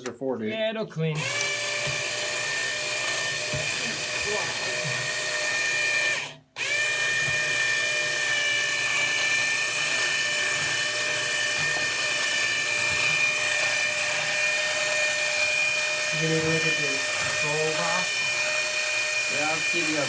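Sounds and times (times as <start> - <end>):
electric motor whining: 1.2 - 20.0.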